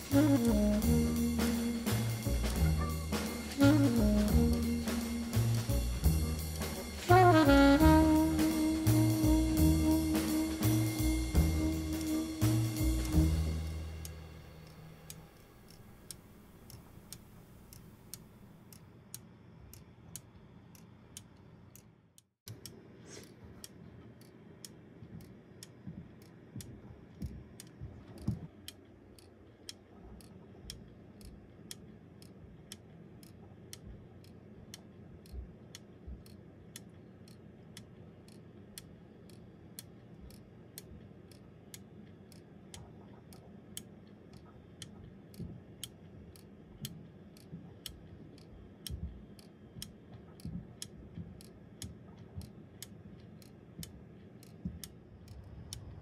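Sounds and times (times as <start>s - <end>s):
wooden clock ticking: 0.0s - 18.8s, 23.6s - 55.9s.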